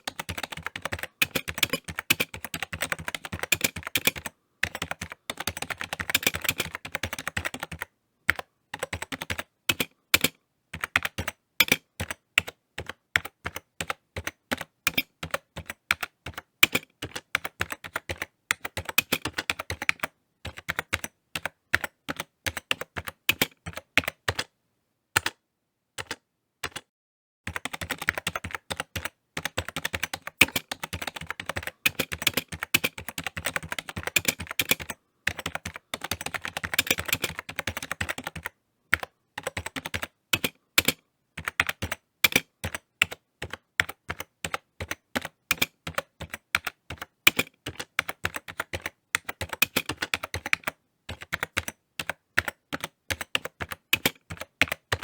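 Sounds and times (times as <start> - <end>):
computer keyboard typing: 0.0 - 24.5, 25.2 - 25.4, 26.0 - 26.9, 27.5 - 55.0.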